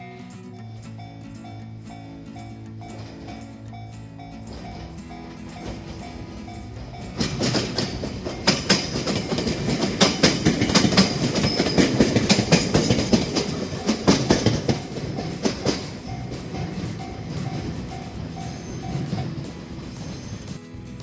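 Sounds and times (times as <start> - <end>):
train rumble: 0.5 - 21.0
train wheels clattering over rails: 0.6 - 21.0.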